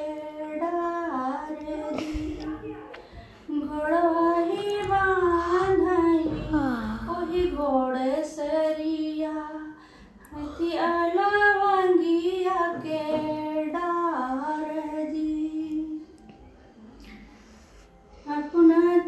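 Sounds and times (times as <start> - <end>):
woman singing unaccompanied: 0.0 - 2.4, 3.5 - 16.2, 18.2 - 19.0.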